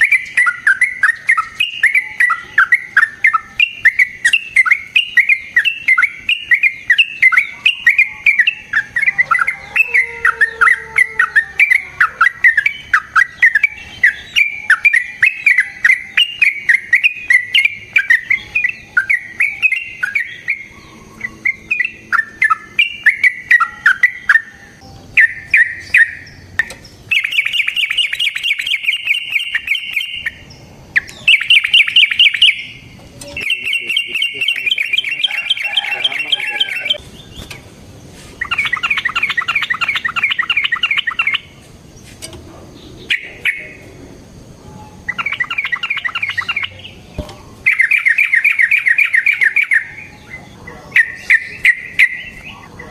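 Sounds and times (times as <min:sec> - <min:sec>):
bulbul singing: 0:00.0 - 0:52.9.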